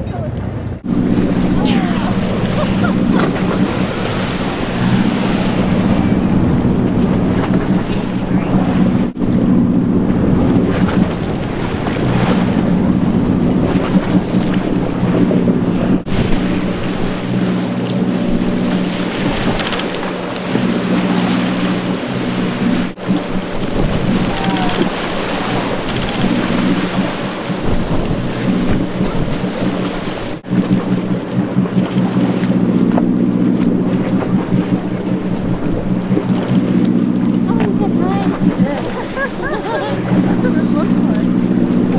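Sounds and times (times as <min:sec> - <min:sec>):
boat engine running: 0:00.0 - 0:41.9
sea noise: 0:00.0 - 0:41.9
wind on microphone: 0:00.0 - 0:41.9.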